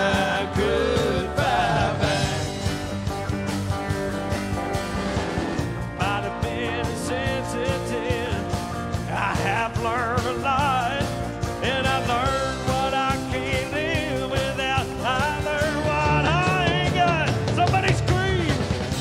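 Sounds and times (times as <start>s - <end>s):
live country band music: 0.0s - 19.0s.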